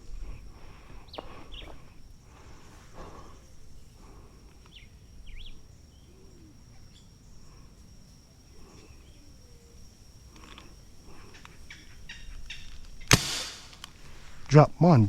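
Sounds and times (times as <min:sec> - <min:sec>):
insect buzzing: 0:00.0 - 0:14.5.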